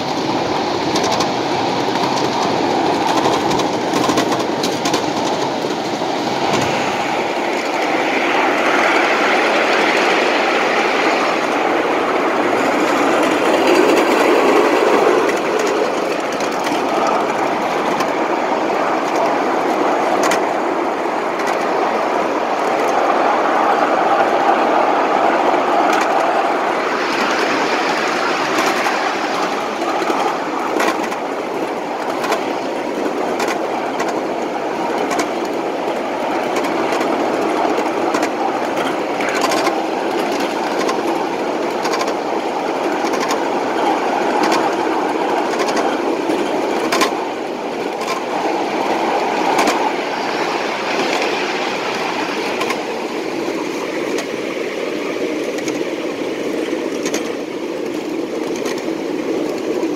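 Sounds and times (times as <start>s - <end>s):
model train rumbling on track: 0.0s - 59.9s
wheels clicking over rail joints: 0.0s - 59.9s.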